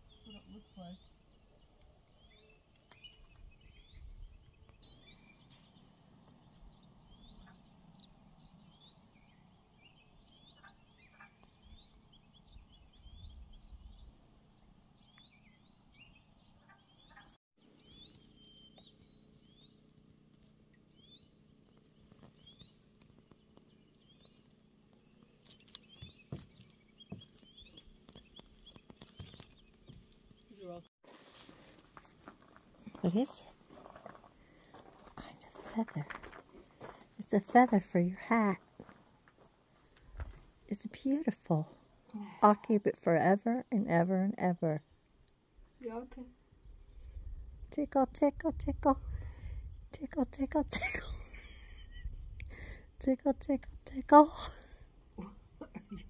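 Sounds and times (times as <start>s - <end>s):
birds chirping: 0.0s - 30.9s, 31.6s - 56.0s.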